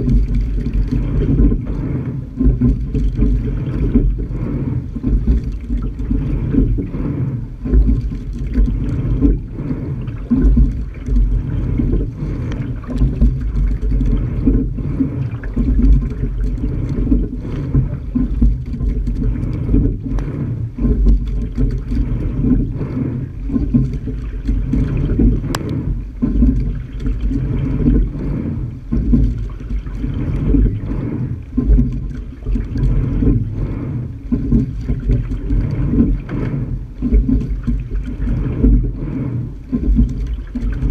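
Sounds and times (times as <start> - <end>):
water running along hull: 0.0 - 40.9.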